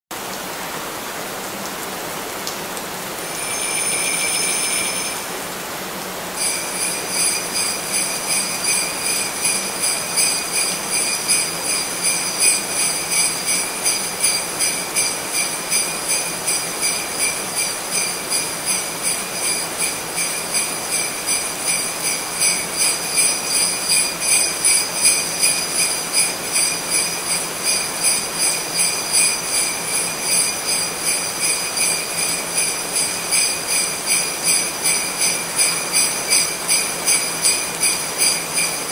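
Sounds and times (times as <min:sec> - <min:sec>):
continuous rushing noise: 0:00.2 - 0:38.9
sleigh bells jingling: 0:03.3 - 0:05.2, 0:06.4 - 0:38.9.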